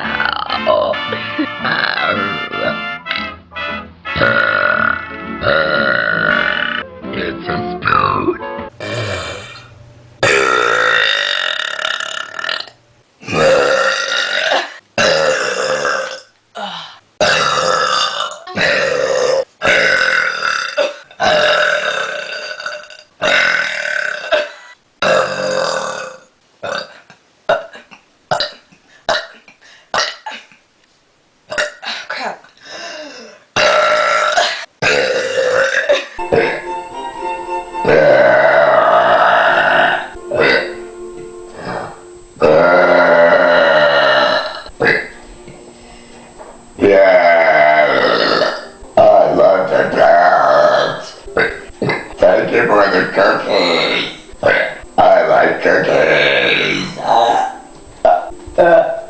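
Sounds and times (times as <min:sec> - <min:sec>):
person burping: 0:00.0 - 0:02.8, 0:04.2 - 0:06.8, 0:07.8 - 0:30.4, 0:31.5 - 0:36.7, 0:37.8 - 0:40.8, 0:41.5 - 0:45.2, 0:46.8 - 0:59.0.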